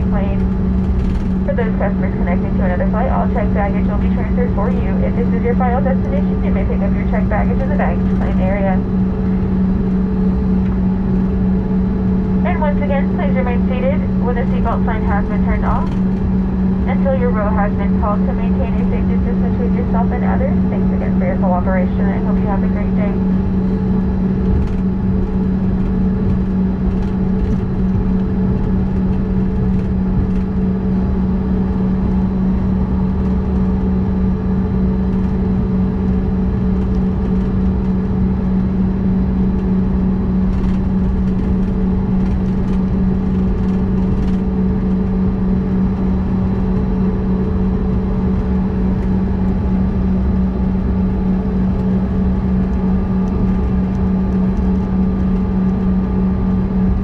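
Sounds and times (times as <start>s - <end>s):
jet engines idling in cabin: 0.0s - 57.0s.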